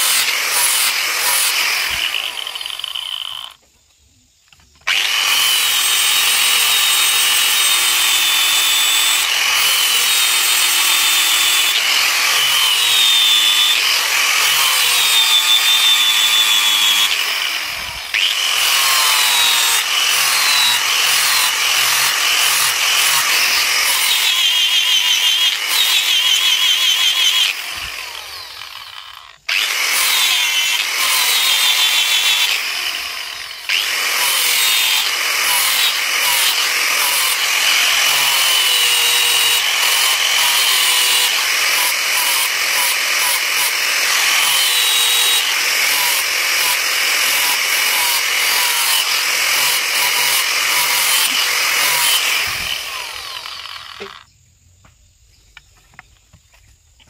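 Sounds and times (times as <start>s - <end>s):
angle grinder grinding metal: 0.0s - 3.6s, 4.8s - 54.3s.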